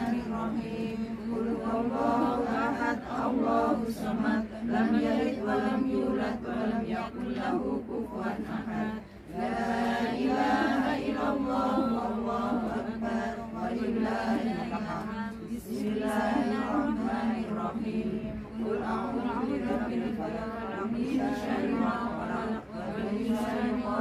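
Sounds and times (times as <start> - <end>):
women chanting in unison: 0.0 - 24.0.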